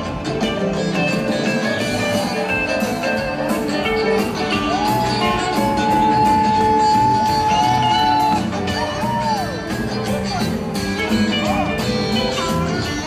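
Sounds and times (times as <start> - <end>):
guitars: 0.0 - 13.0
live rock band: 0.0 - 13.0
steady drumbeat: 1.7 - 13.0.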